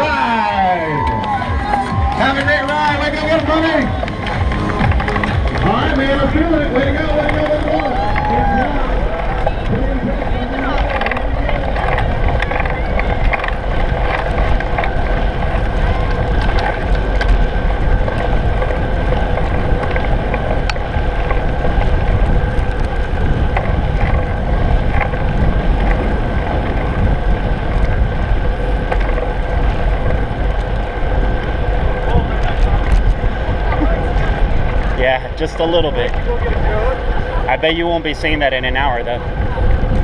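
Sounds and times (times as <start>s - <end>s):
road rumble with tyre hiss: 0.0s - 40.0s
wind buffeting microphone: 0.0s - 40.0s.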